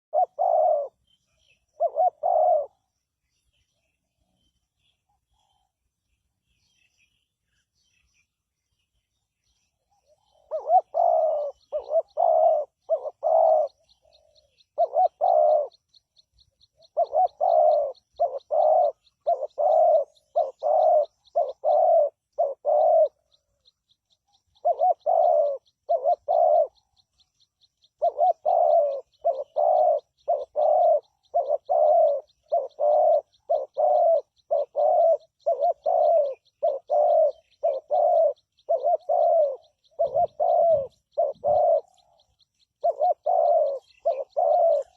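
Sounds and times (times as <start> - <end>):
dove cooing: 0.0 - 3.0, 9.9 - 44.9.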